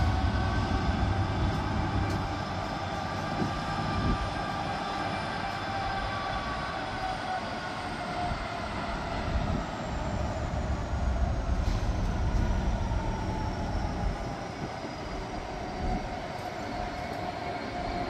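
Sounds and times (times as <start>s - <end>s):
wheels rumbling on rails: 0.0s - 18.0s.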